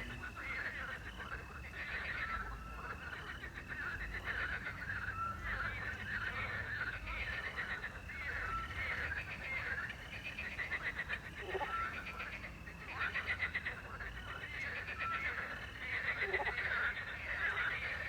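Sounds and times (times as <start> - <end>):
crickets chirping: 0.0 - 18.0
frogs croaking: 0.0 - 18.0.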